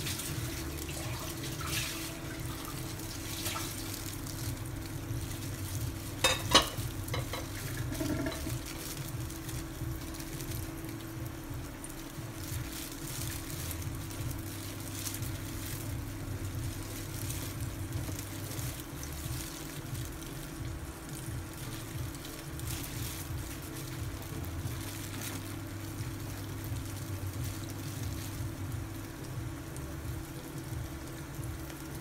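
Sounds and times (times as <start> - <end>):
hand working flour on a plate: 0.0 - 32.0
induction cooktop humming: 0.0 - 32.0.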